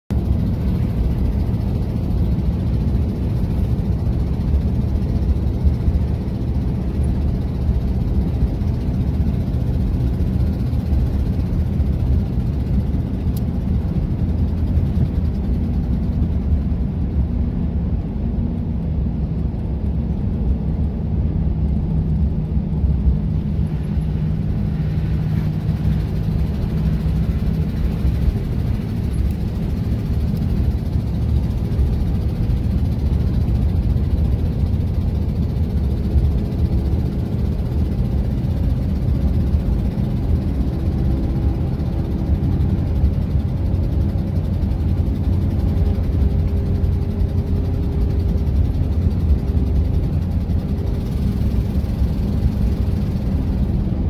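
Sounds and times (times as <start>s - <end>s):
car road noise rumble: 0.1s - 54.0s.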